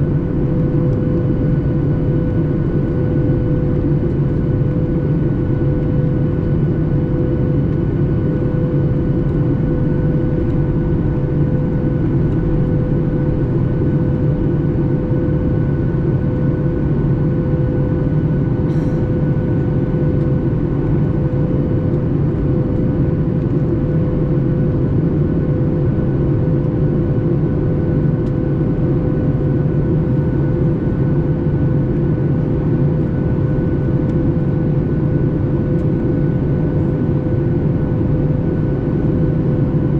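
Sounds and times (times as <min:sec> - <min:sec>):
airplane cabin air and engine drone: 0:00.0 - 0:39.9
constant hum: 0:00.0 - 0:39.9.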